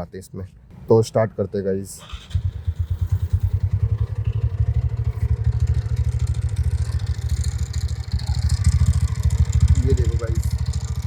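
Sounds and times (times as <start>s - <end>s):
scooter engine starting and idling: 1.9s - 11.0s
engine rattle: 2.0s - 11.0s.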